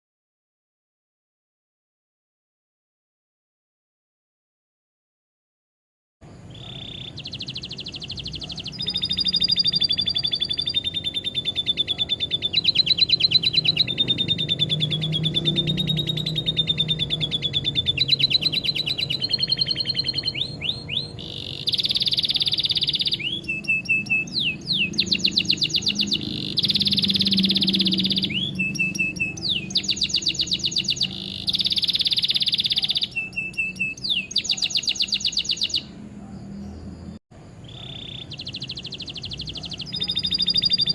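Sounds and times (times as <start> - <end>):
canary singing trills: 6.3 - 40.9.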